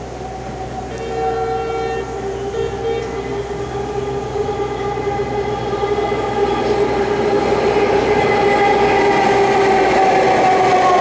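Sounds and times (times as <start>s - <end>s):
train approaching: 0.0s - 11.0s
two-tone whine: 0.0s - 11.0s.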